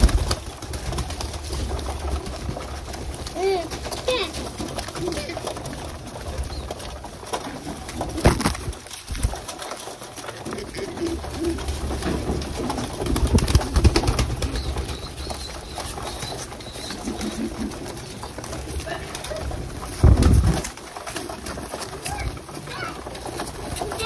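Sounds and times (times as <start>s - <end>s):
pigeons cooing: 0.0s - 24.0s
wings flapping: 0.0s - 24.0s.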